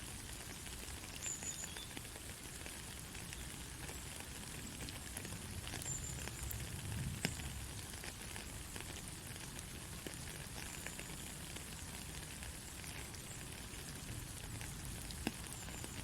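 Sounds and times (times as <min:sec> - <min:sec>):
soft rain hissing: 0:00.0 - 0:16.0.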